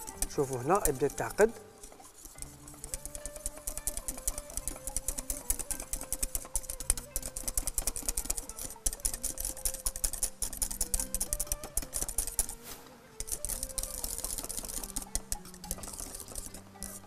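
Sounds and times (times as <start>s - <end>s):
whisk clicking against metal pan: 0.0s - 12.6s, 13.2s - 17.0s.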